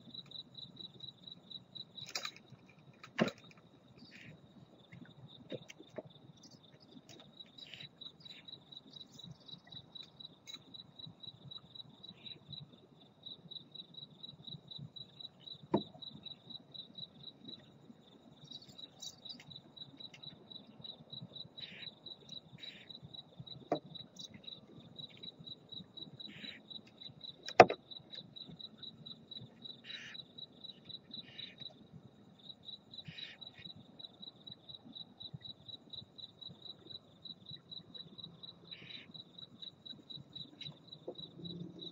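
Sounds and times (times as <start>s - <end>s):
cricket chirping: 0.0s - 41.9s.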